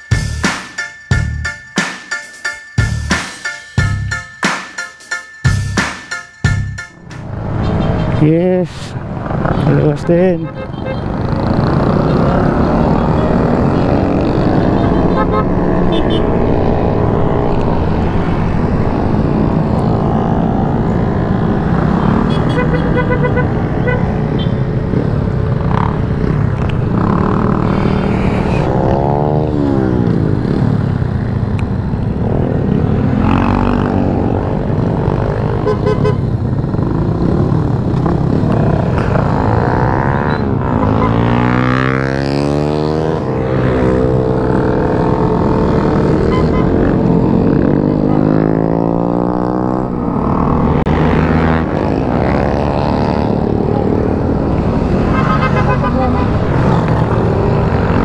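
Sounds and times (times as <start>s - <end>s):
motorcycles passing by: 7.0s - 58.0s.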